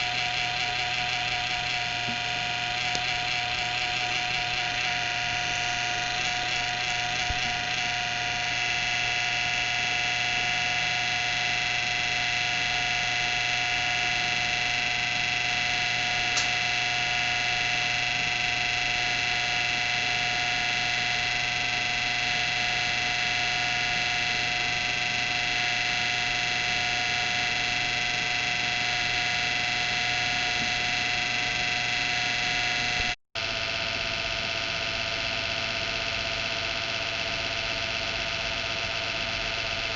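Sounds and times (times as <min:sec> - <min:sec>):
computer whirring whine: 0:00.0 - 0:39.9.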